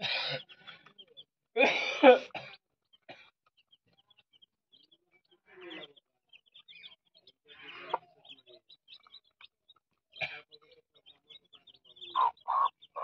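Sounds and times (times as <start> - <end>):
chicks peeping: 0.0 - 1.3, 2.4 - 13.0.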